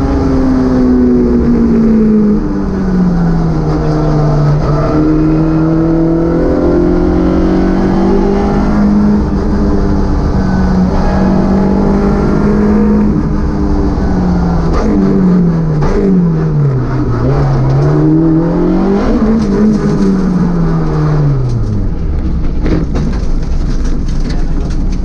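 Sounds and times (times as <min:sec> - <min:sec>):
car engine downshifting: 0:00.0 - 0:25.0.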